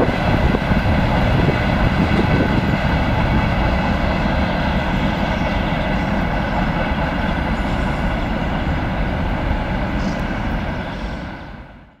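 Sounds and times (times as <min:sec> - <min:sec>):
train wheels rolling on rail: 0:00.0 - 0:12.0.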